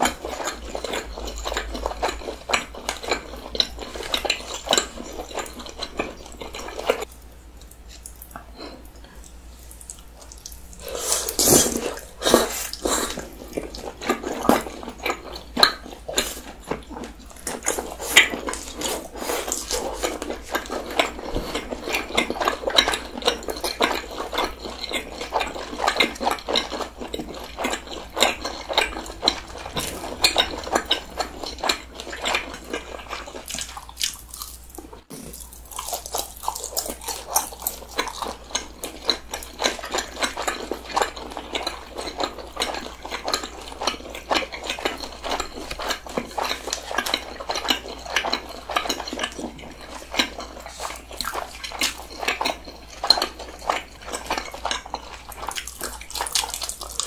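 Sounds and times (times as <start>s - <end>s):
close chewing with mouth clicks: 0.0s - 57.0s.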